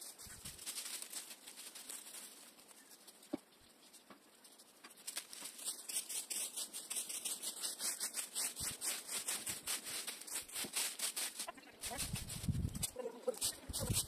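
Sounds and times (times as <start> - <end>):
rake scraping through dry leaves: 0.0 - 3.2, 5.0 - 14.0.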